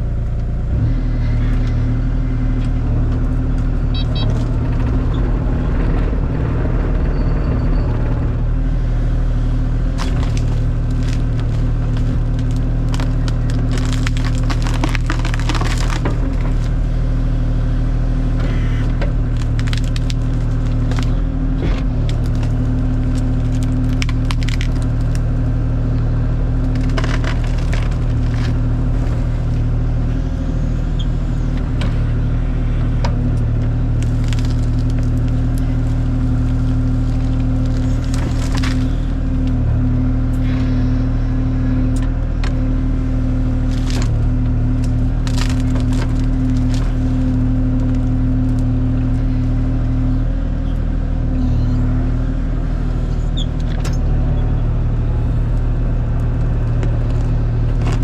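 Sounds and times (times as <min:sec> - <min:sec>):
wood cracking and splintering: 0:00.0 - 0:50.6, 0:51.8 - 0:58.0
excavator diesel engine running: 0:00.0 - 0:58.0.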